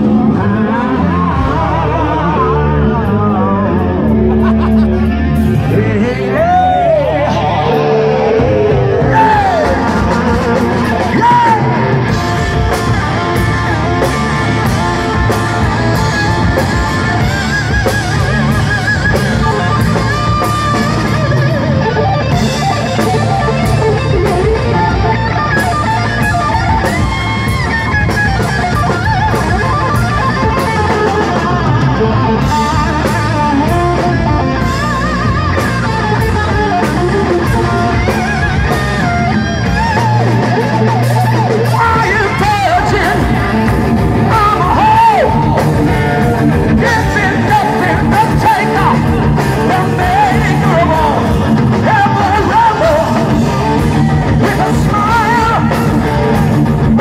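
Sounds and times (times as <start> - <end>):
bass guitar: 0.0 - 57.0
drum kit: 0.0 - 57.0
electric guitar lead line: 0.0 - 57.0.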